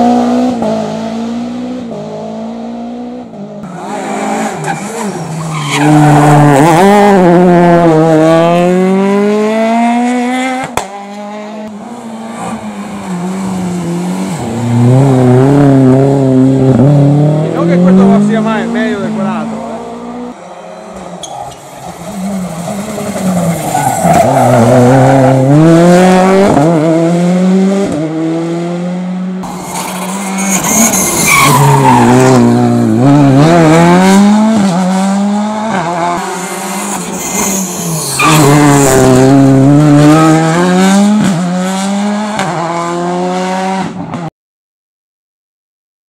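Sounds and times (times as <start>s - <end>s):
rally car engines revving: 0.0s - 44.3s.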